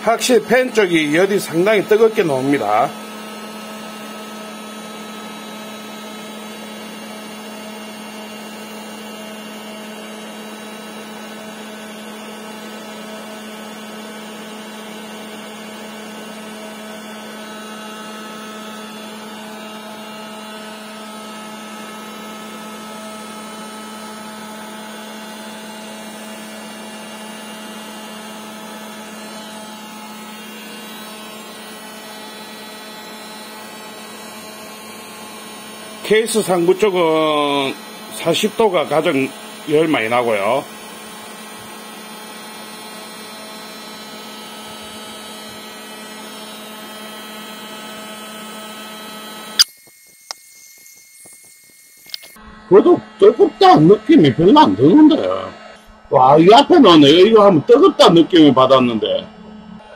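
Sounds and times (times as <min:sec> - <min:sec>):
electrical hum: 0:00.0 - 0:13.0, 0:15.0 - 0:59.9
cooling fan whirring: 0:00.0 - 0:59.9.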